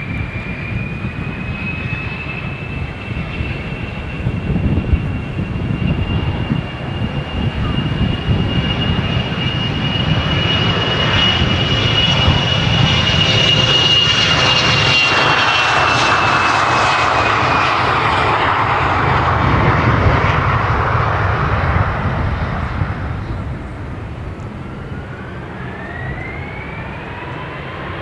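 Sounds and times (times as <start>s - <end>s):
airliner engine whine: 0.0s - 28.0s.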